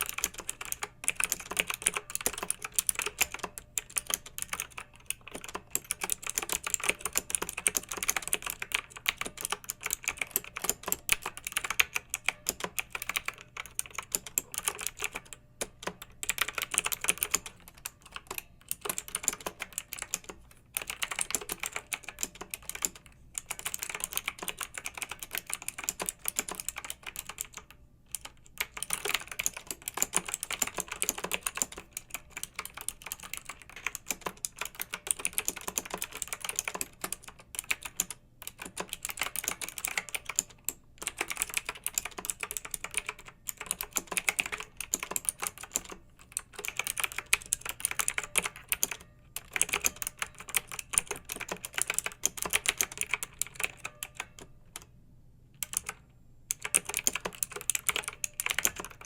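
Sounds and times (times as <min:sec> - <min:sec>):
mechanical keyboard typing: 0:00.0 - 0:54.9, 0:55.6 - 0:59.0.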